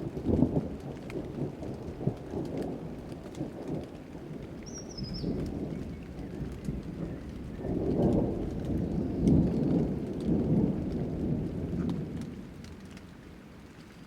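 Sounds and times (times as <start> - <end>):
thunder rumbling: 0.0 - 13.7
rain falling: 0.0 - 14.0.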